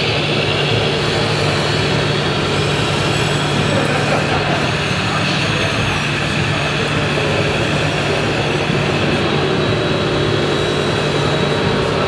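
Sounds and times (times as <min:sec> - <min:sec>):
model trucks engine drone: 0:00.0 - 0:12.0.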